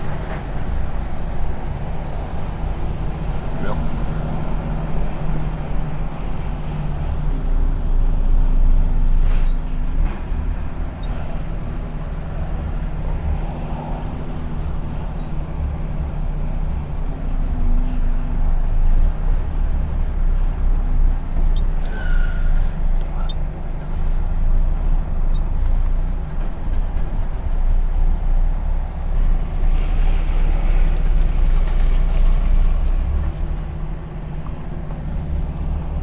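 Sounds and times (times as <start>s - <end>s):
truck engine and road rumble: 0.0s - 36.0s.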